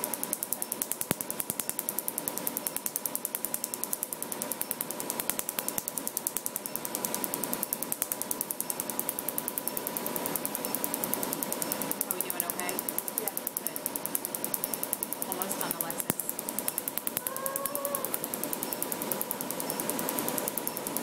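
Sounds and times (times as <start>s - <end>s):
laser handpiece snapping pulses: 0.0s - 21.0s
steady high hum: 0.0s - 21.0s.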